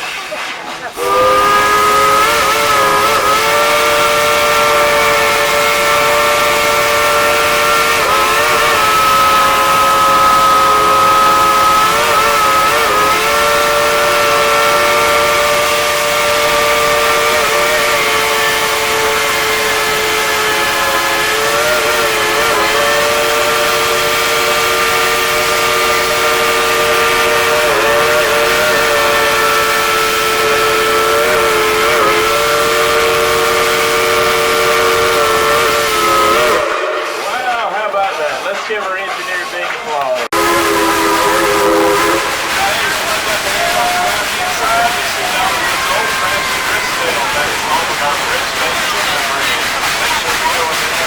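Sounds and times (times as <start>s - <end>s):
steam whistle blast: 1.0s - 37.9s, 40.3s - 51.0s.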